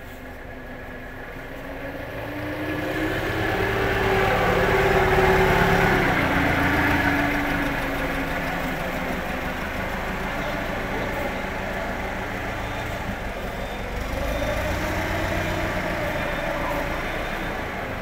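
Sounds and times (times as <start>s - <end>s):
forklift motor running: 0.0s - 18.0s.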